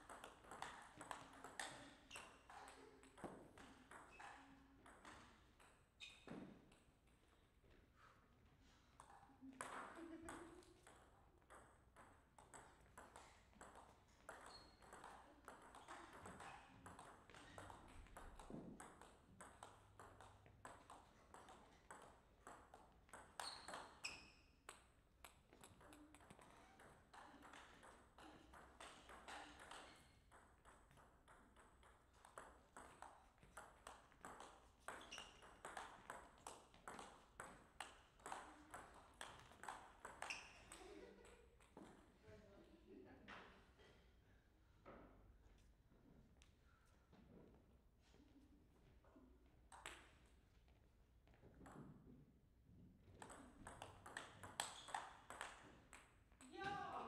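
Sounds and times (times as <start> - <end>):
table tennis ball bouncing: 0.0 - 7.3, 8.9 - 42.1, 49.7 - 50.3, 51.2 - 52.2, 53.0 - 57.0.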